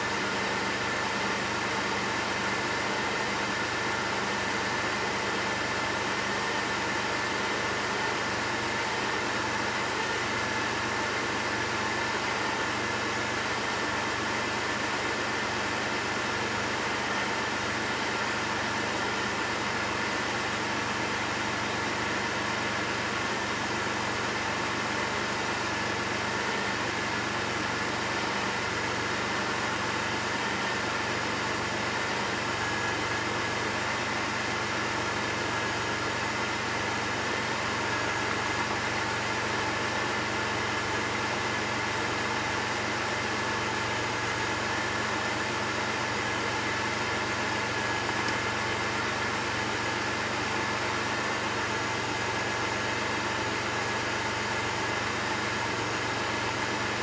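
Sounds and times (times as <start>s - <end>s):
car engine idling roughly: 0.0s - 57.0s.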